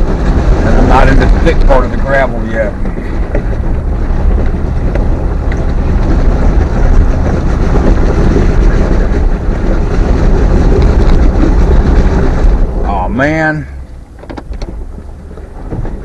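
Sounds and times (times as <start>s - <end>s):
vehicle driving on gravel: 0.0s - 16.0s
wind buffeting microphone: 0.0s - 16.0s.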